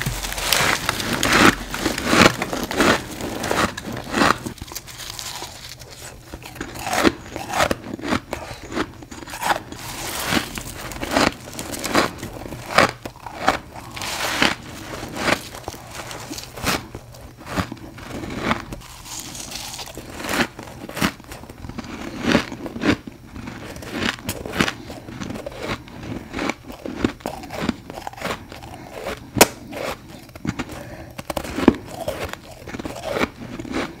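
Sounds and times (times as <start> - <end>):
crunchy chewing of frost: 0.0 - 34.0.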